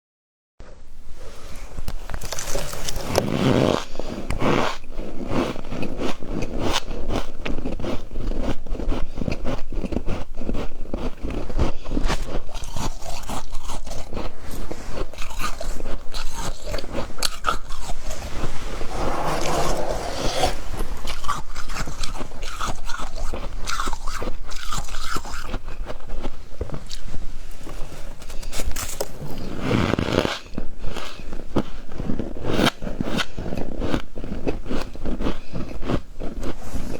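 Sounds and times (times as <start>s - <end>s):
ice crunching as it is chewed: 1.2s - 18.5s, 19.4s - 36.9s.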